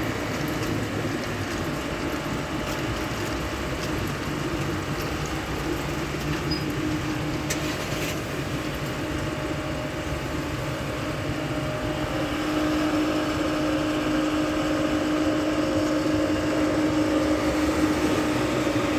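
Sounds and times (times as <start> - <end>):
car rolling slowly: 0.0 - 18.9
car wash machinery humming: 0.0 - 18.9.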